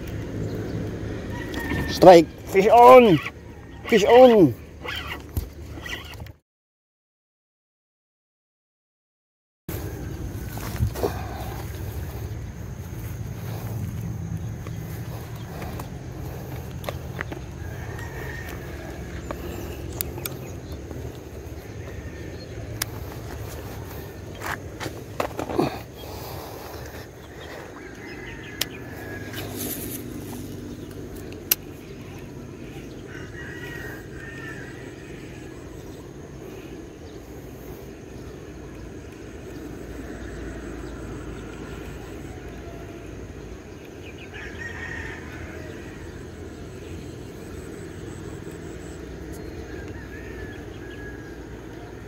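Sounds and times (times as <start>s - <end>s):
roosters crowing: 0.4s - 6.2s, 9.7s - 37.3s, 37.9s - 52.0s.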